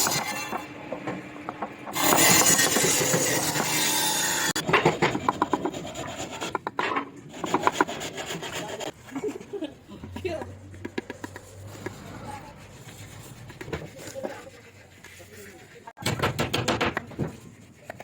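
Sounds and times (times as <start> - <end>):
rasp filing wood: 1.9 - 9.0, 10.3 - 18.0.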